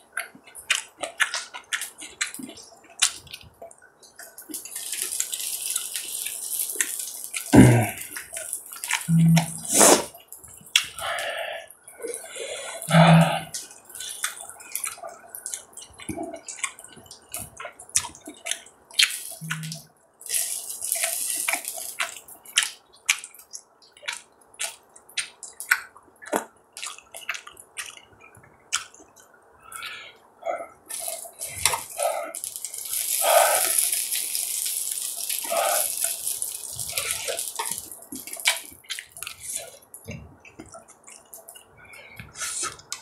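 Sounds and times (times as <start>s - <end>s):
wet chewing and mouth clicks: 0.0s - 43.0s.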